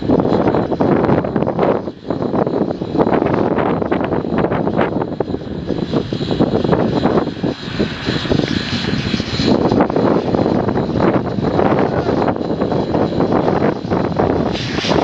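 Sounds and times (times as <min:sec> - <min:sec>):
steam hissing: 0:00.0 - 0:15.0
steam locomotive exhaust beats: 0:00.0 - 0:15.0.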